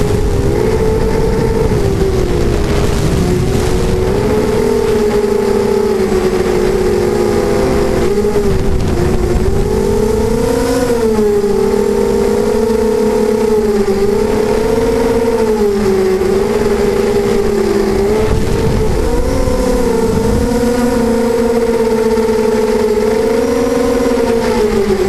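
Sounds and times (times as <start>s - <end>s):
drone motors and propellers whining: 0.0s - 25.0s
wind noise: 0.0s - 25.0s.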